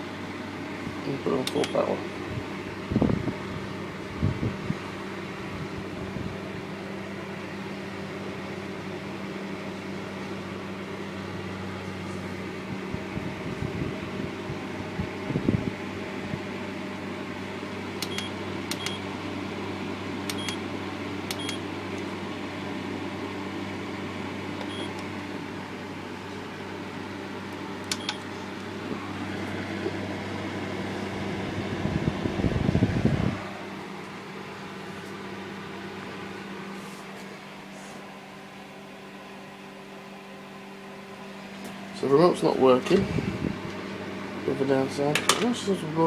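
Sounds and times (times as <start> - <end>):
fan heater running: 0.0 - 46.0.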